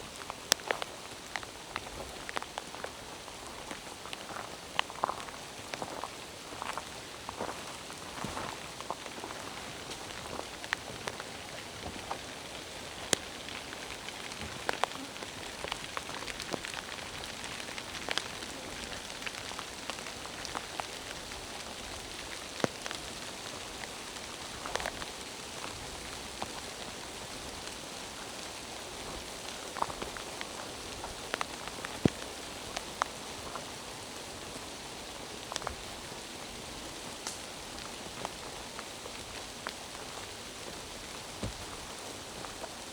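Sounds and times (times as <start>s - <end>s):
rain hiss: 0.0s - 42.9s
raindrops ticking: 0.1s - 42.9s.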